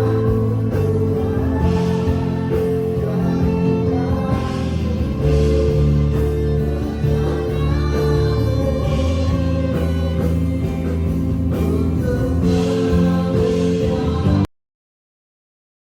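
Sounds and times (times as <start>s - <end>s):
worship music with singing: 0.0s - 14.5s.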